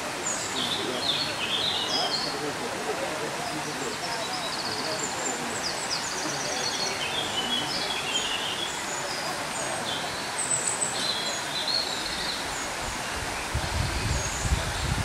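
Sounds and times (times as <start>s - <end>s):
small birds chirping: 0.0s - 2.7s, 3.4s - 15.0s
steady outdoor hiss: 0.0s - 15.0s.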